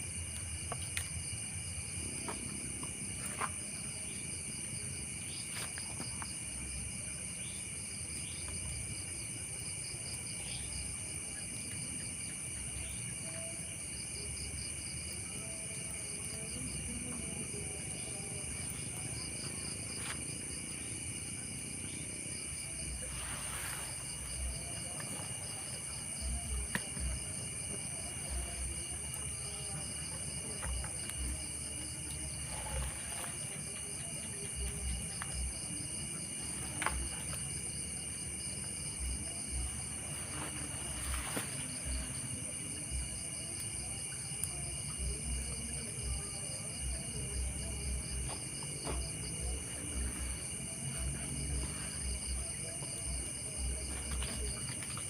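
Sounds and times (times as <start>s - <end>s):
crickets and night insects chirping: 0.0s - 55.0s.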